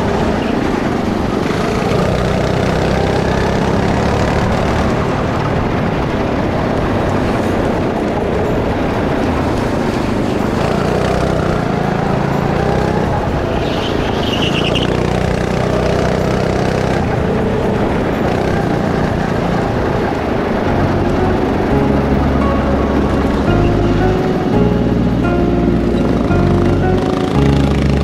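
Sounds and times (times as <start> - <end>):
go-kart engine: 0.0 - 28.0.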